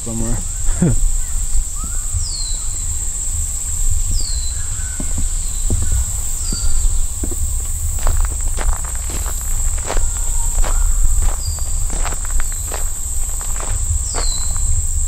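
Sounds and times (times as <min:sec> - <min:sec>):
bird chirping: 0:00.0 - 0:14.8
crickets droning: 0:00.0 - 0:15.0
wind on microphone: 0:00.0 - 0:15.0
low rumble of walking: 0:01.1 - 0:15.0.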